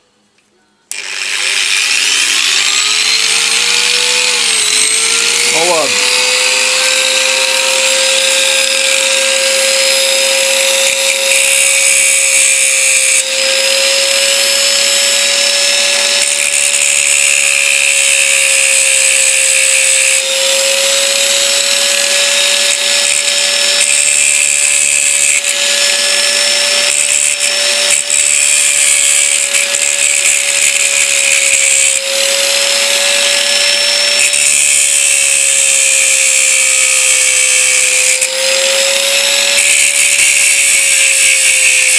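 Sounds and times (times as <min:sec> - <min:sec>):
angle grinder whining: 0:00.9 - 0:41.9
grinder wheel grinding metal: 0:00.9 - 0:41.9.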